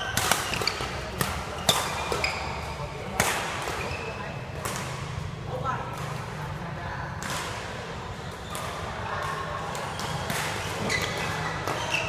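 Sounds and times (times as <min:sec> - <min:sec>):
rackets striking shuttlecock: 0:00.0 - 0:05.2, 0:07.1 - 0:12.0.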